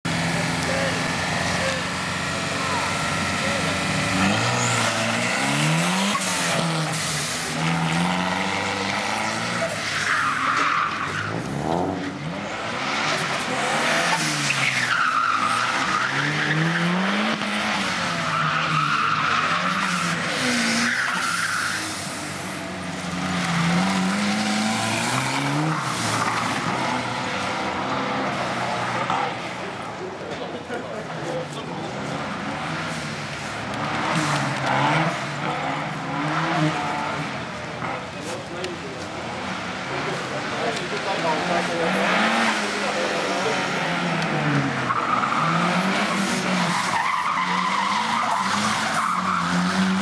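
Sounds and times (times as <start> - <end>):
car engine revving hard: 0.1 - 9.9, 11.2 - 29.5, 32.1 - 38.0, 39.3 - 50.0.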